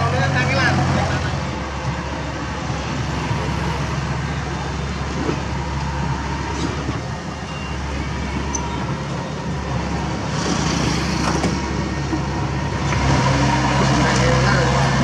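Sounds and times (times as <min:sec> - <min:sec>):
diesel trucks idling: 0:00.0 - 0:15.0.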